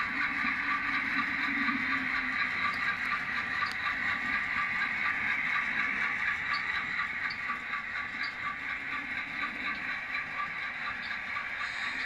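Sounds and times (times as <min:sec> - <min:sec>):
model train cars rolling: 0:00.0 - 0:12.0.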